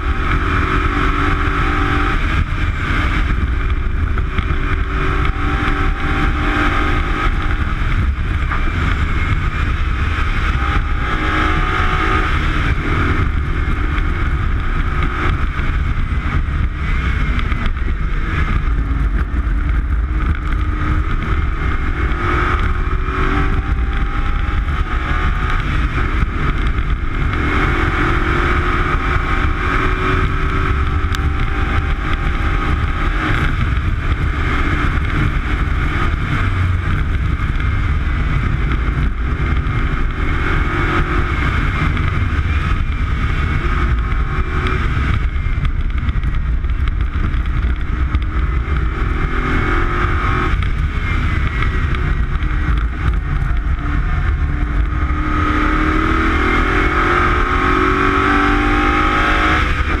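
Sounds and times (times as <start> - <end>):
racing car engine: 0.0 - 60.0
wind and road noise: 0.0 - 60.0.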